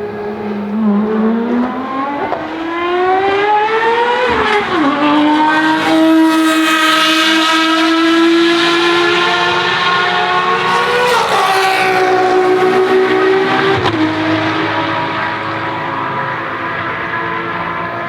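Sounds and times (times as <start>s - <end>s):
race car engine accelerating: 0.0s - 18.0s.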